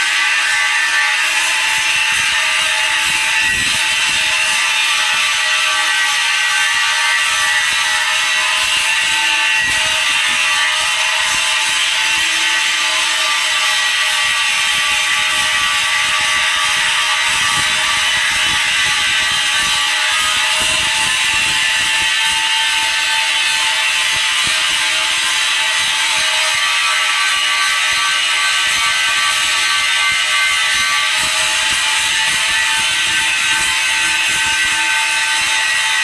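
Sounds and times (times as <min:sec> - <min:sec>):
welding arc sizzling hiss: 0:00.0 - 0:36.0.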